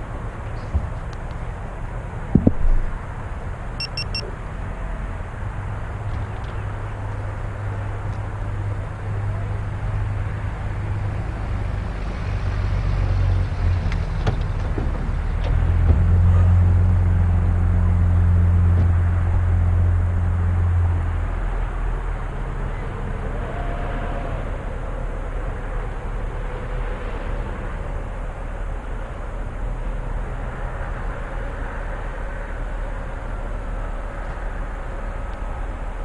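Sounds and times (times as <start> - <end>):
outdoor rumble: 0.0 - 36.0
vehicle engine droning: 0.0 - 36.0.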